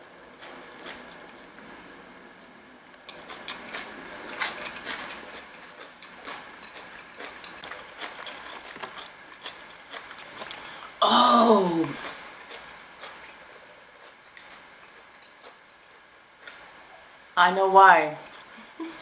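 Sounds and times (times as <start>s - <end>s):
close chewing with mouth clicks: 0.1s - 1.7s, 3.0s - 11.0s, 11.8s - 17.1s, 18.2s - 19.0s.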